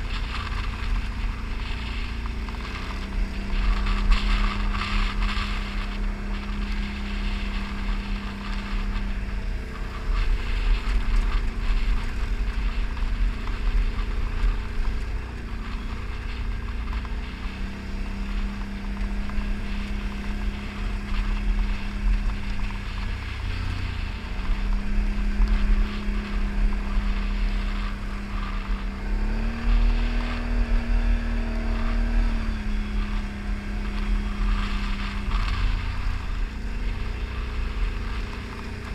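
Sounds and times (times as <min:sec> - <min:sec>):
atv engine running: 0:00.0 - 0:38.9
low rumble: 0:00.0 - 0:38.9.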